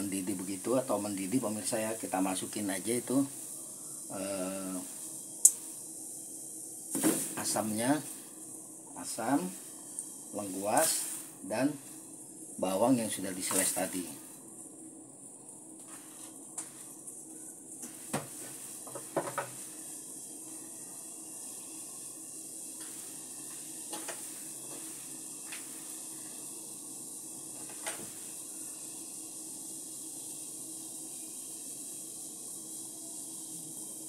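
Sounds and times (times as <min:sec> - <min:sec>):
heating water hissing: 0:00.0 - 0:34.0.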